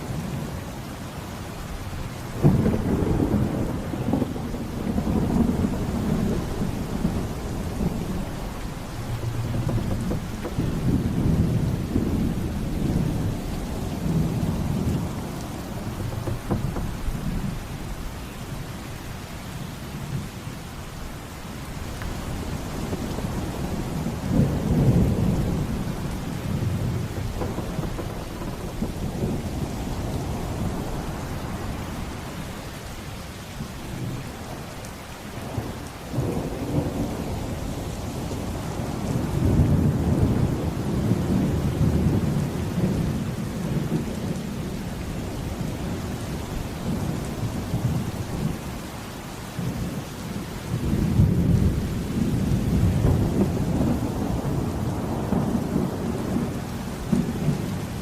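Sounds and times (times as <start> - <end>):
heavy rain: 0.0 - 58.0
deep rolling thunder: 1.7 - 18.5, 21.7 - 32.6, 35.4 - 48.9, 49.6 - 58.0.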